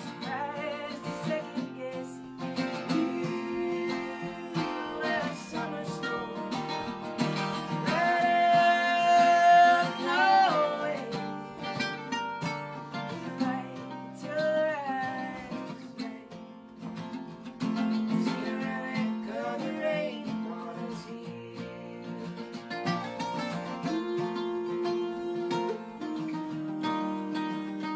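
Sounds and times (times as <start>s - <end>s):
woman singing: 0.0s - 16.5s, 18.0s - 27.9s
acoustic guitars strumming: 0.0s - 27.9s.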